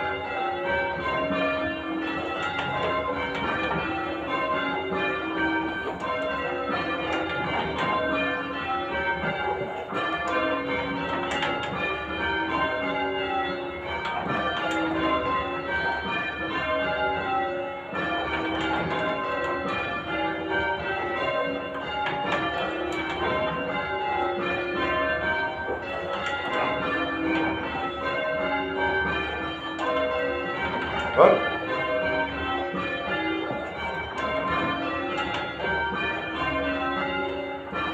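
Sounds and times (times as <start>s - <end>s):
church bells change ringing: 0.0s - 37.9s.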